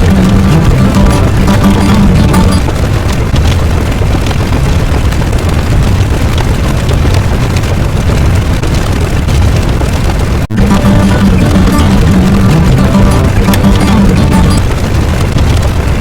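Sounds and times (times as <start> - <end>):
loud continuous rumbling: 0.0 - 16.0.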